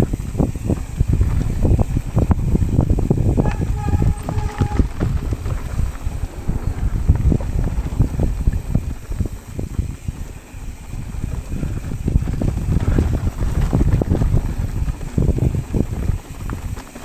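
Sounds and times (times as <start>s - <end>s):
bike tyres rumbling on rough trail: 0.0s - 17.0s
wind buffeting microphone: 0.0s - 17.0s.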